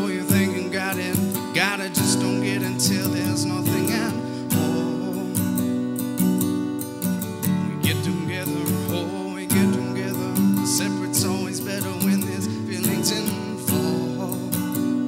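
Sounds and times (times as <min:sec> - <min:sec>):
man singing into a microphone: 0:00.0 - 0:05.8, 0:07.5 - 0:15.0
strummed acoustic guitar: 0:00.0 - 0:15.0.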